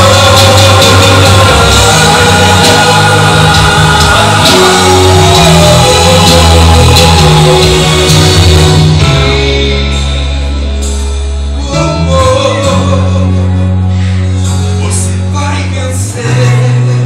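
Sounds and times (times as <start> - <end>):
song with bass and singing: 0.0 - 17.0.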